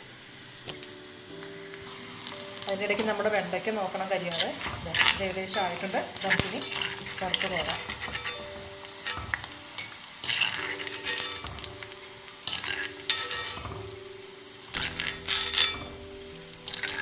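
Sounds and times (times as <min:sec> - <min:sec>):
okra sizzling in oil: 0:00.0 - 0:17.0
spatula scraping pan: 0:02.8 - 0:17.0.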